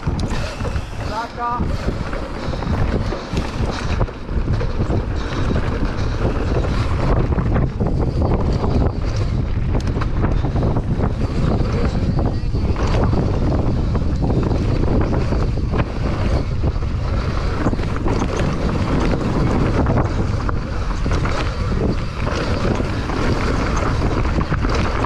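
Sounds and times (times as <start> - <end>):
bike clattering over rocks: 0.0 - 25.0
heavy wind noise on microphone: 0.0 - 25.0.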